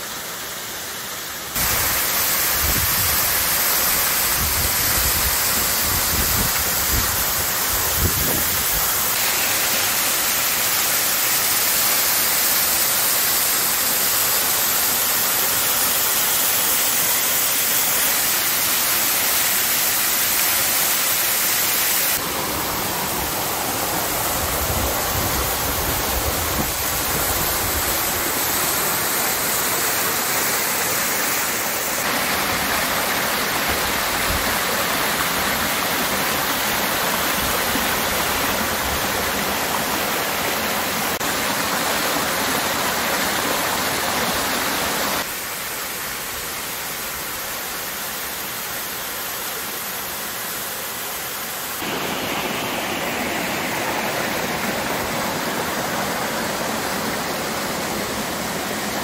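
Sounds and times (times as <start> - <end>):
waterfall splashing onto rocks: 1.5 - 59.0.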